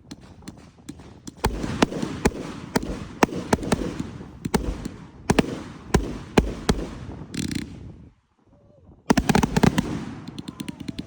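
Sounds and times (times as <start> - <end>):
fireworks bangs: 0.0 - 8.0, 9.1 - 11.0.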